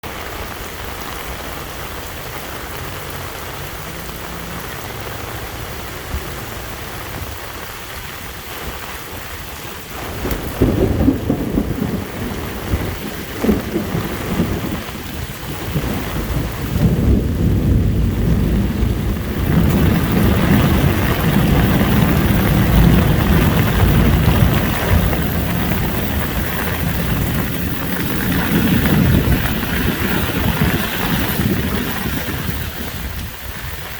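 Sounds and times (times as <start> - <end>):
heavy rain: 0.0 - 33.9
thunder crack and rumbles: 0.0 - 33.9.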